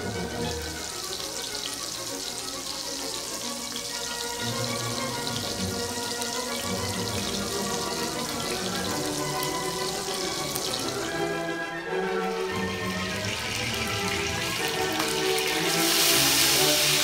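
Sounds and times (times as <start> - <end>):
burger patties sizzling in oil: 0.0 - 11.3, 12.6 - 17.0
background music: 0.0 - 17.0.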